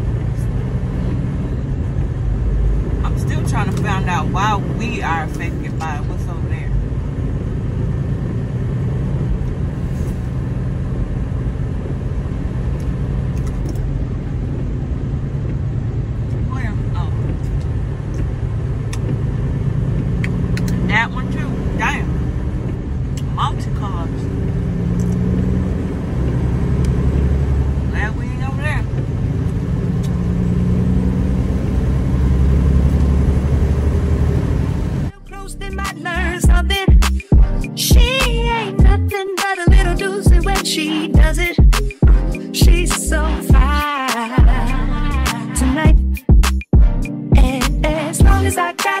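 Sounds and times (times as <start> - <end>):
truck engine rumble: 0.0 - 39.1, 41.2 - 48.5
road noise: 0.0 - 48.6.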